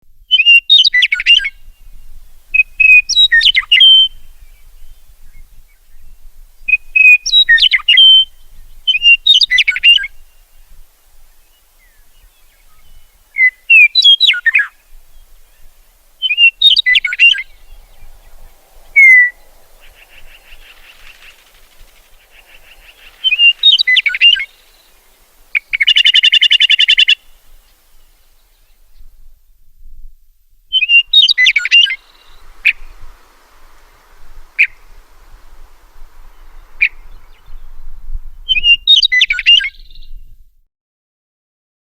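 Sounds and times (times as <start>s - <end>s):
meadowlark singing: 0.2s - 29.2s, 30.7s - 40.4s.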